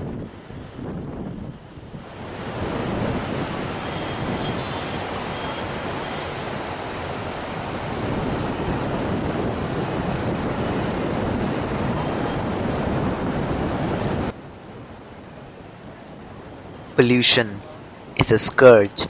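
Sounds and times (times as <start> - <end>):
wind buffeting microphone: 0.0 - 17.0
surf: 0.0 - 19.0.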